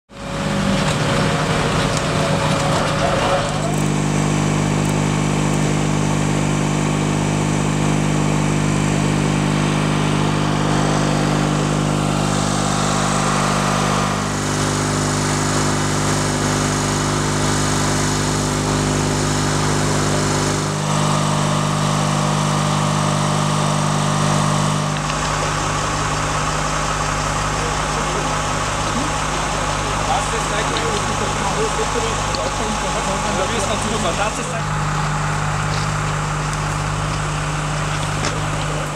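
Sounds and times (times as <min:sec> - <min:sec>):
vehicle engines idling: 0:00.2 - 0:06.0, 0:08.6 - 0:38.9.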